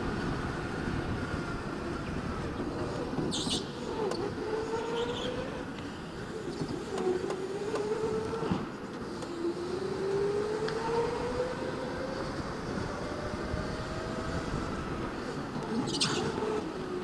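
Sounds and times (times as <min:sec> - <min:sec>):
wind and tyre noise: 0:00.0 - 0:17.0.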